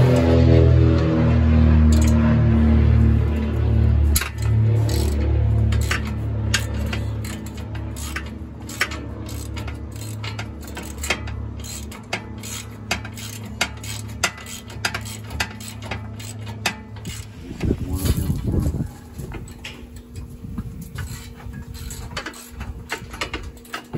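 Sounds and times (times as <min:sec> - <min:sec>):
low hum: 0:00.0 - 0:23.9.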